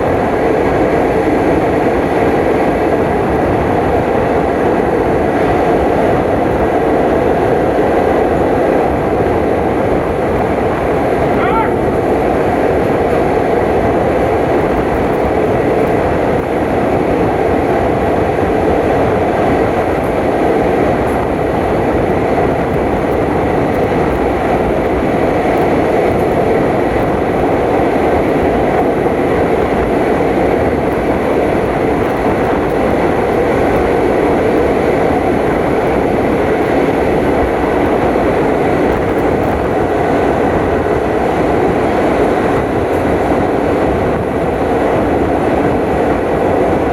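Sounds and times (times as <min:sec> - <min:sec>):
train wheels rumbling on track: 0:00.0 - 0:46.9.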